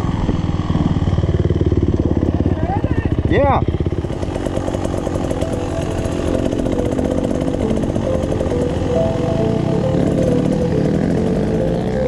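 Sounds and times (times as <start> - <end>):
two-stroke dirt bike engine: 0.0 - 12.0.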